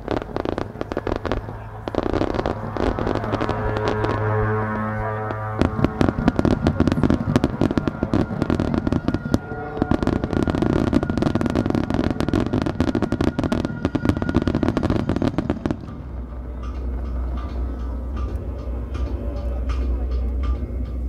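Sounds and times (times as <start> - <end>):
faint music: 0.0 - 21.0
fireworks bangs and crackling: 0.0 - 21.0.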